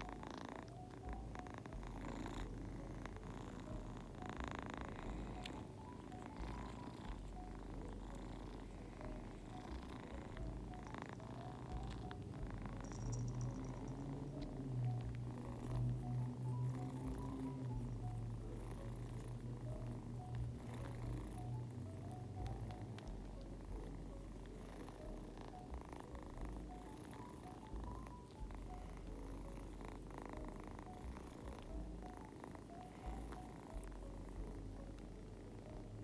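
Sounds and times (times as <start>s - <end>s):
cat purring: 0.0s - 36.0s.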